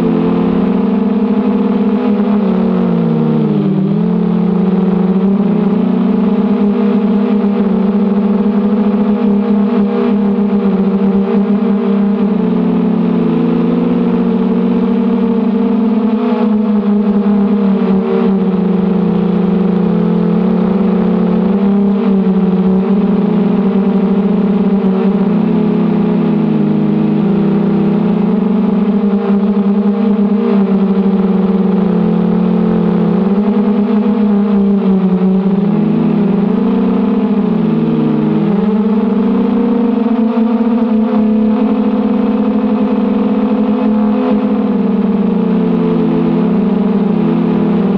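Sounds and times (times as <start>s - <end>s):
quadcopter buzzing whine: 0.0s - 47.9s.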